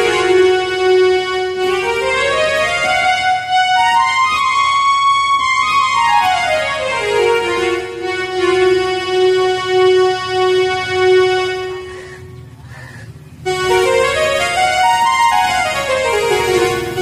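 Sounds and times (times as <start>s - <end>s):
keyboard string tone melody: 0.0s - 12.6s, 13.3s - 17.0s.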